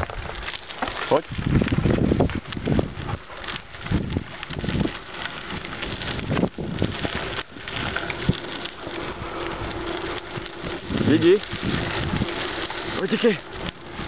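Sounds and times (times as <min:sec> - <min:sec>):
bicycle rolling on gravel: 0:00.0 - 0:14.0
wind buffeting microphone: 0:01.1 - 0:14.0.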